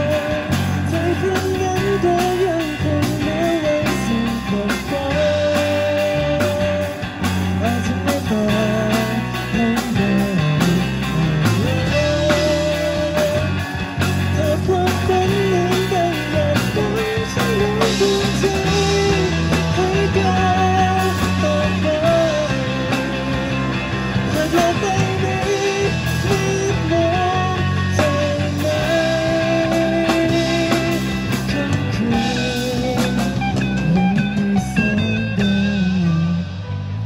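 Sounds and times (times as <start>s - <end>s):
man singing amplified: 0.0s - 36.8s
drum kit: 0.0s - 37.0s
electric guitars: 0.0s - 37.0s.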